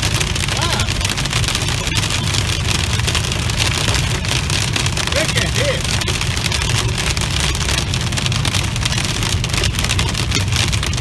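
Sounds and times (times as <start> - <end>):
hail pelting a car: 0.0 - 11.0
low road rumble: 0.0 - 11.0.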